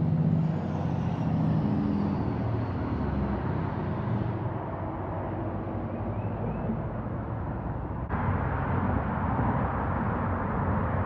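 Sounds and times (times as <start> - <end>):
engine low rumble: 0.0 - 11.0.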